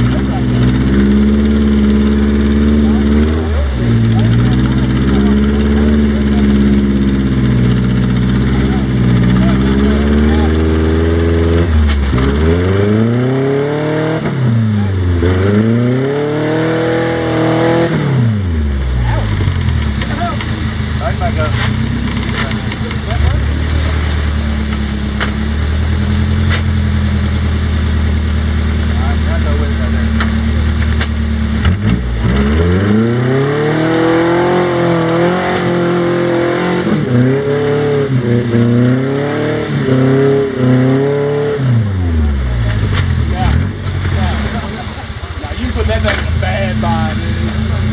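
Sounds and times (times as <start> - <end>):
engine revving under load: 0.0 - 47.9.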